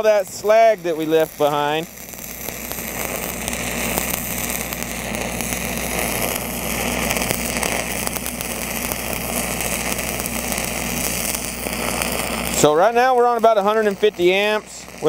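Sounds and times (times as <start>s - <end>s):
engine drone: 0.0s - 15.0s
welding arc crackling hiss: 0.0s - 15.0s.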